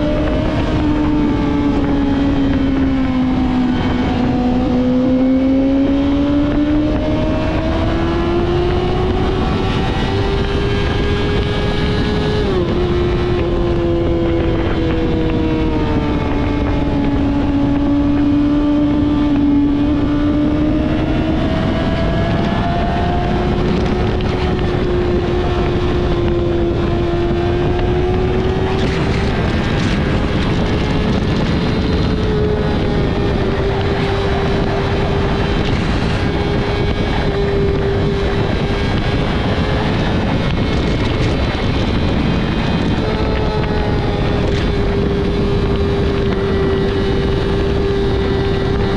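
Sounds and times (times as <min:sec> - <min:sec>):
motorcycle engine at high revs: 0:00.0 - 0:48.9
wind noise on microphone: 0:00.0 - 0:48.9.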